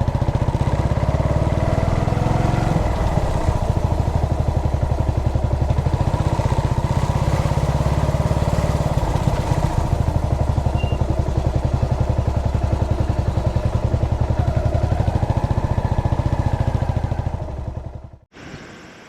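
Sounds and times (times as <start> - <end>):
motorcycle engine at low revs: 0.0 - 18.3.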